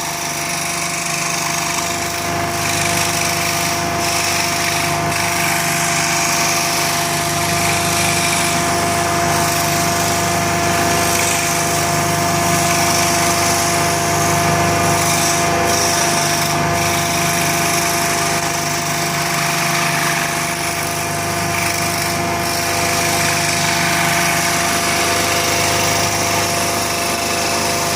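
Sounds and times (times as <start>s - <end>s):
power tool motor hum and whine: 0.0s - 27.9s.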